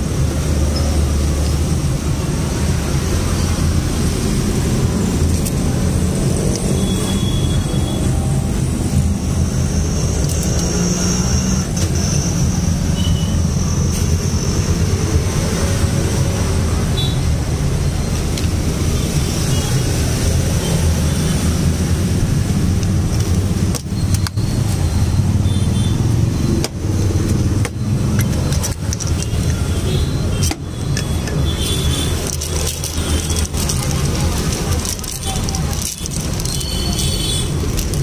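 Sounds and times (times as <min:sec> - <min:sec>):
traffic engine rumble: 0:00.0 - 0:38.0.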